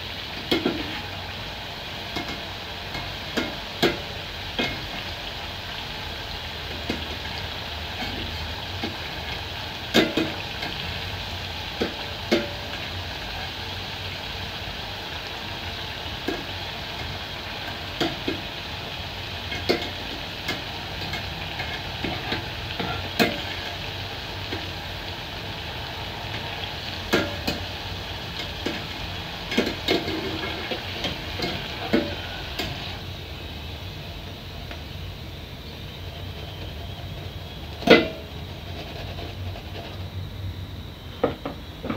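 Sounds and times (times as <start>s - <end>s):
dough sizzling in hot oil: 0.0s - 41.9s.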